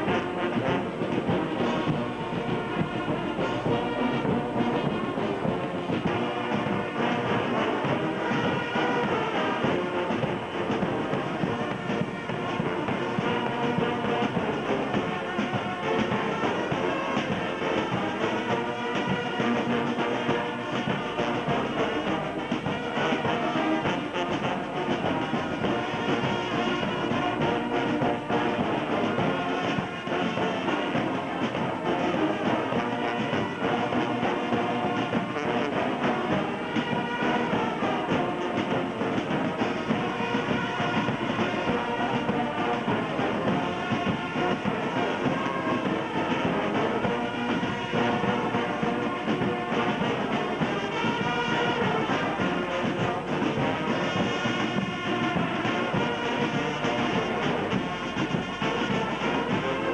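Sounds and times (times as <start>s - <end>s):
brass band music: 0.0s - 59.9s.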